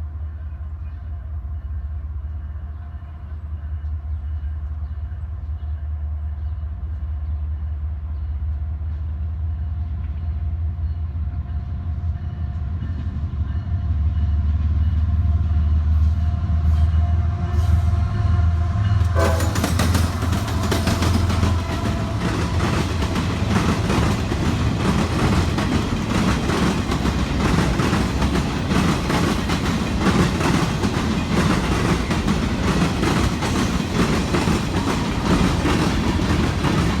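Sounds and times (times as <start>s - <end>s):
diesel locomotive rumble: 0.0s - 37.0s
rail and wheel noise: 0.0s - 37.0s.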